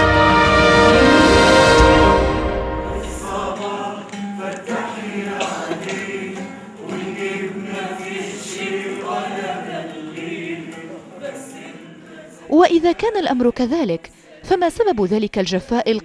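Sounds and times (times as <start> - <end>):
group singing choir-like chant: 0.0 - 14.6.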